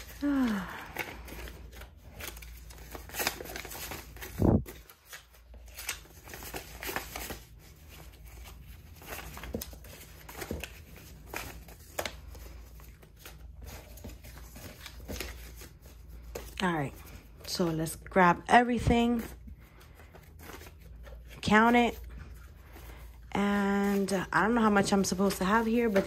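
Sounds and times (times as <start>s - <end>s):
banknotes rustling and flicking: 0.0s - 26.0s.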